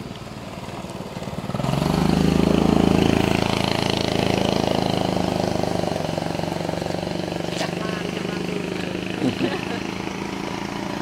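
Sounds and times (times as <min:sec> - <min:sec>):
motor engine running: 0:00.0 - 0:11.0.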